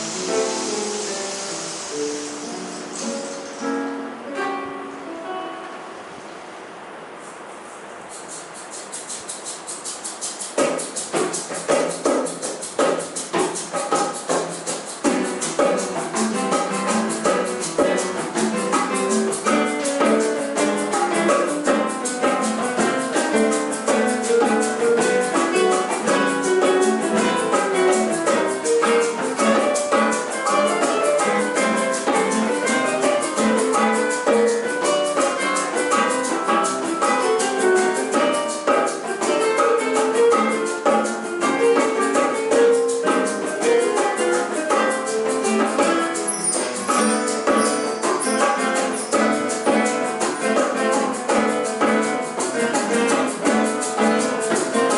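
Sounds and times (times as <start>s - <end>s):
shaker-like percussion ticking: 0.0s - 3.9s, 8.0s - 54.9s
classical guitars plucking: 0.0s - 6.8s, 8.0s - 54.9s.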